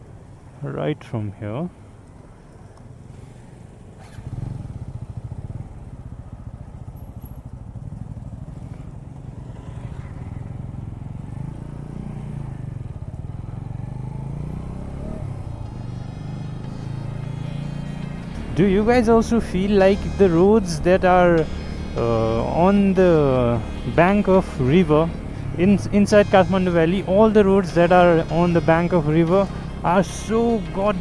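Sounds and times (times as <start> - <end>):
motorcycle engine running: 1.8 - 31.0.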